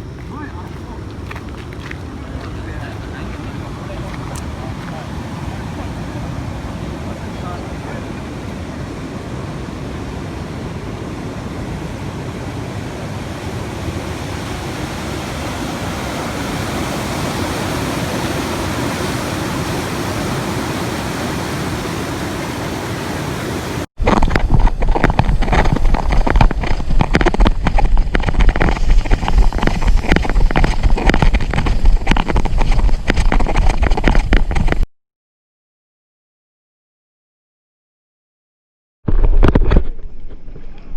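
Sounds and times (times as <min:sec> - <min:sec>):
heavy surf and wind: 0:00.0 - 0:34.8
wind buffeting microphone: 0:00.0 - 0:34.8.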